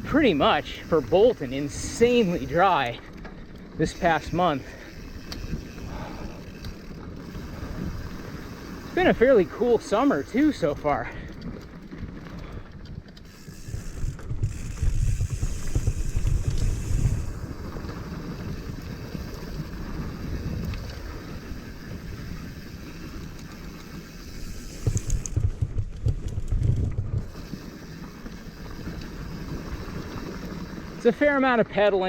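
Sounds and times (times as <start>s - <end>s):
wind buffeting microphone: 0.0s - 31.0s
bike rattling: 0.0s - 32.0s
bike tyres on dirt trail: 0.0s - 32.0s.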